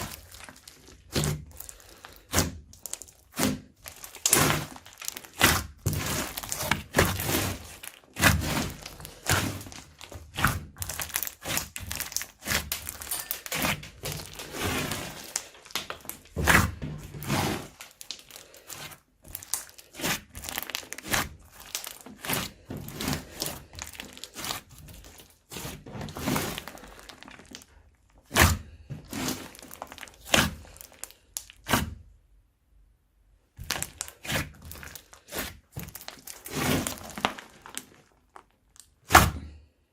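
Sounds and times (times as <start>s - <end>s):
slime with foam beads crunching: 0.0s - 32.0s, 33.5s - 39.6s.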